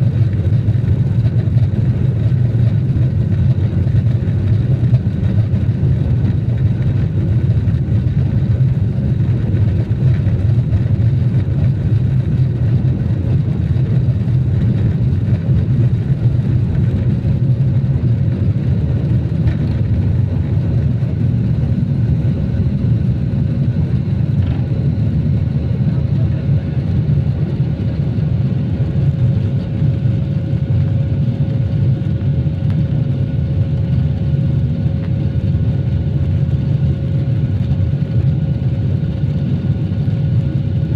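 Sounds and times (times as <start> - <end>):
jet engine rumble in cabin: 0.0 - 40.9.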